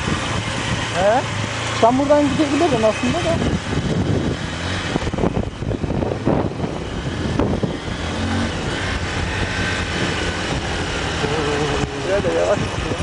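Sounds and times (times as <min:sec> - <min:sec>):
noisy rushing: 0:00.0 - 0:13.0
vehicle engine humming: 0:00.0 - 0:13.0.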